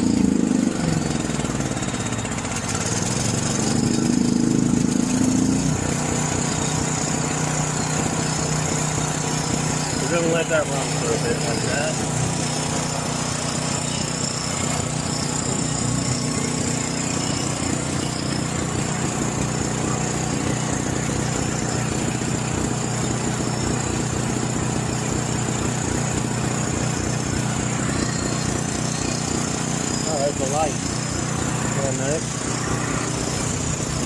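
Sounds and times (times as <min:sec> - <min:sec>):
generator engine running: 0:00.0 - 0:34.0.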